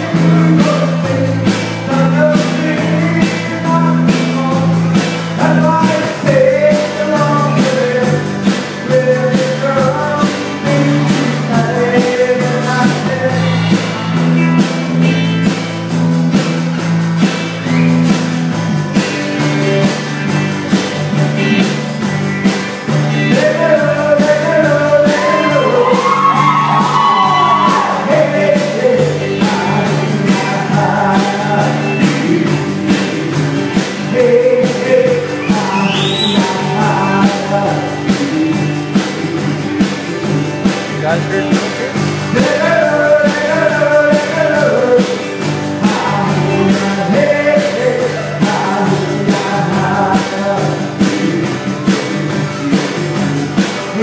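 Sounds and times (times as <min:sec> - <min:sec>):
person singing: 0:00.0 - 0:14.0, 0:23.1 - 0:54.0
lead guitar with bending notes: 0:00.0 - 0:54.0
live rock band playing: 0:00.0 - 0:54.0.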